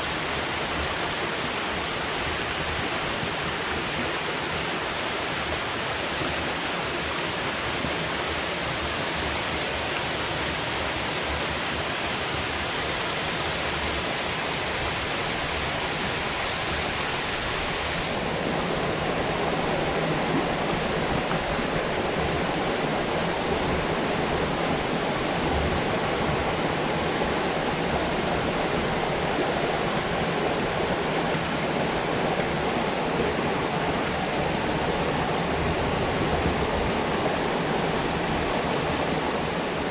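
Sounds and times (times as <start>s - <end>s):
river water rushing below a dam: 0.0s - 39.9s.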